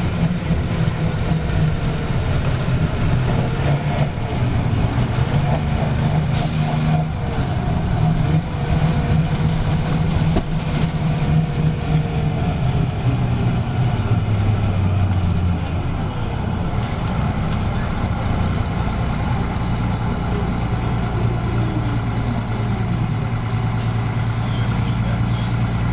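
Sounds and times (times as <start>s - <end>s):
diesel bus engine idling: 0.0s - 25.9s.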